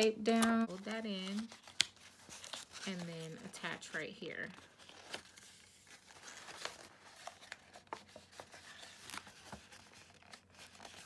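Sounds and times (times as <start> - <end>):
cardstock rustling and clicking: 0.3 - 11.0.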